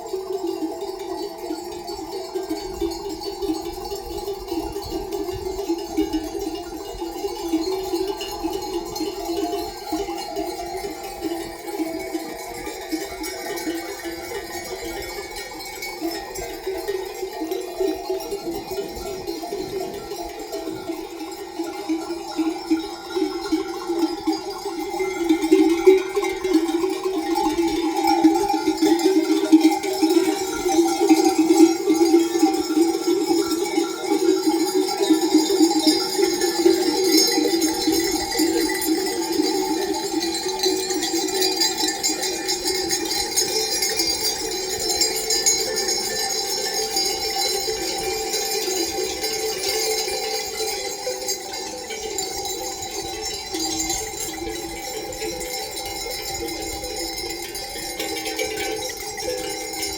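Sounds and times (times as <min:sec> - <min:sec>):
livestock bells clanking: 0:00.0 - 0:59.9.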